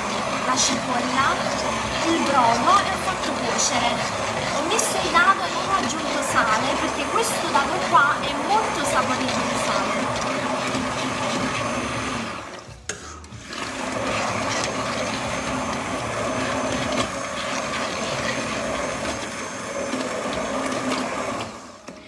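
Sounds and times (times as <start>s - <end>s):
immersion blender in metal pot: 0.0s - 22.0s.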